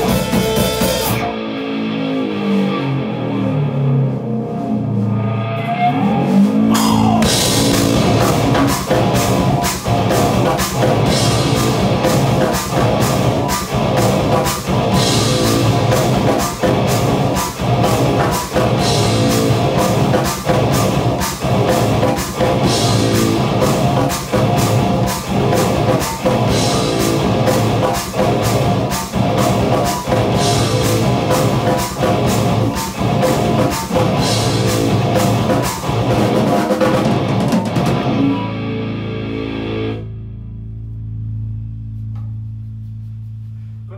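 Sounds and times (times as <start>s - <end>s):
drum kit: 0.0s - 2.9s, 6.1s - 39.9s
electric guitar: 0.0s - 42.5s
bass guitar: 0.0s - 43.9s.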